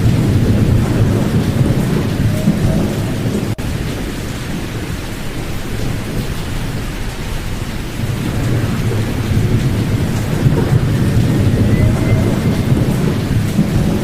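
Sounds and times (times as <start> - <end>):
low filtered pink noise: 0.0 - 14.0.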